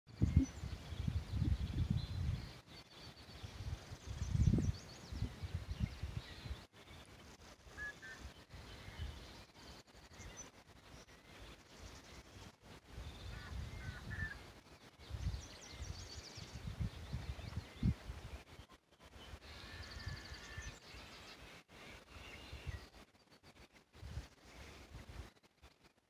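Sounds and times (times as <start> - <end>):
wind rumbling on microphone: 0.1 - 21.2, 21.9 - 26.0
faint bird calls and chirps: 0.1 - 25.9.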